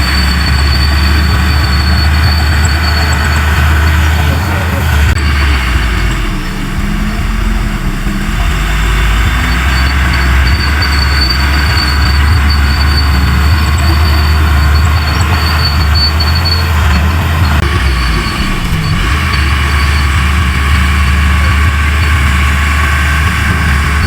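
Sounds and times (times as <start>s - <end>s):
bulldozer diesel engine drone: 0.0s - 24.0s.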